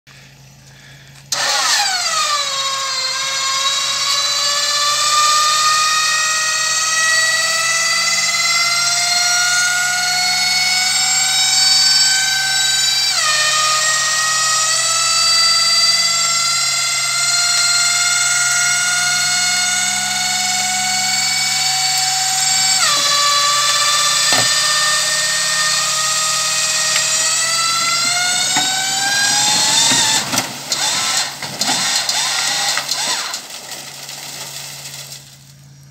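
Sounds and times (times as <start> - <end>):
hydraulic lift whining: 0.2 - 35.9.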